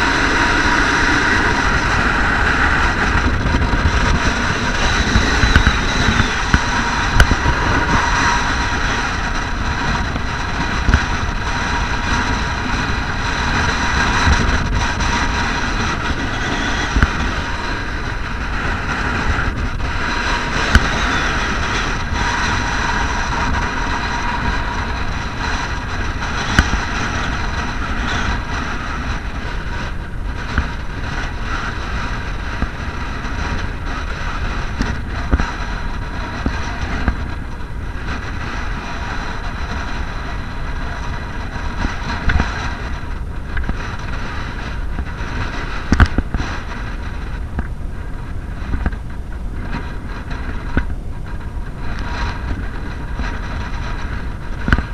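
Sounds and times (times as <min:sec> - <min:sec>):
faint high whine: 0:00.0 - 0:54.9
wind blowing across microphone: 0:00.0 - 0:54.9.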